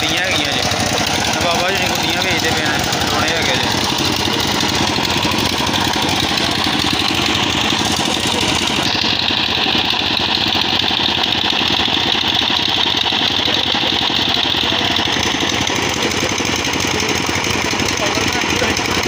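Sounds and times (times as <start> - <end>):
engine idling with chugging beat: 0.0 - 19.0.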